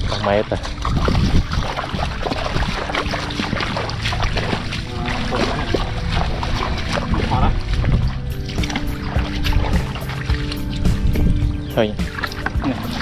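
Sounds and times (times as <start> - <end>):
footsteps splashing through water: 0.0 - 13.0.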